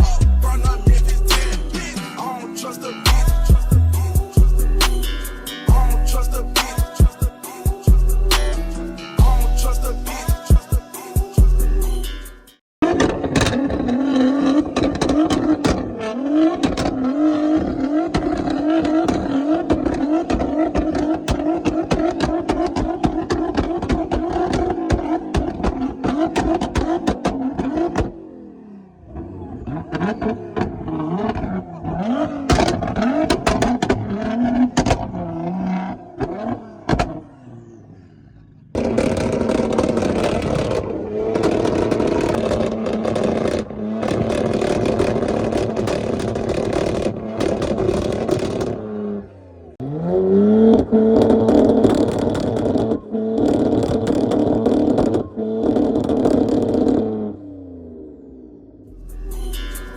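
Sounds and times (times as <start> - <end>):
car engines revving on limiter: 0.0 - 7.2, 12.8 - 59.0
exhaust crackling: 0.0 - 7.2, 12.8 - 59.9.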